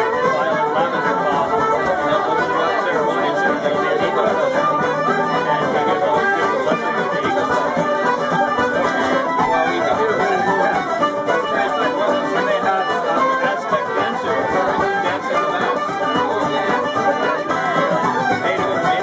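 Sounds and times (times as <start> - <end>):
acoustic instruments playing a tune: 0.0 - 19.0.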